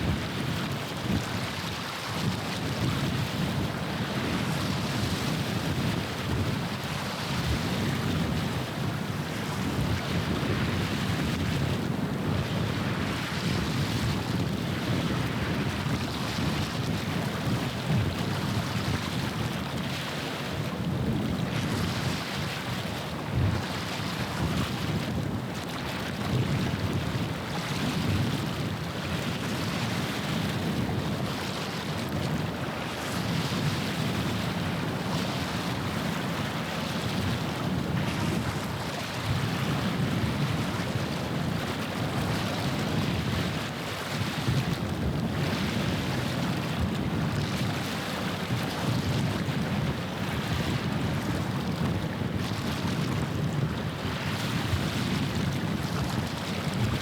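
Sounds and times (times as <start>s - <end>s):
waves washing on shore: 0.0s - 57.0s
wind buffeting microphone: 0.0s - 57.0s.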